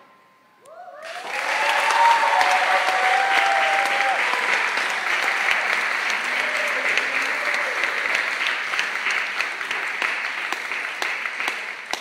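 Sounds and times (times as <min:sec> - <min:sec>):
audience applauding: 0:01.0 - 0:12.0.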